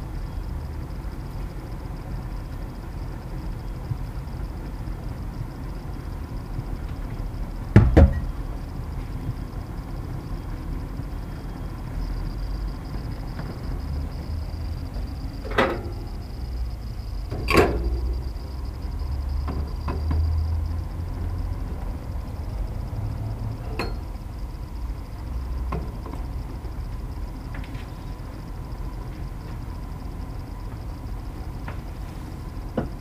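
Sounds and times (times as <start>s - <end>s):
low steady rumble: 0.0s - 33.0s.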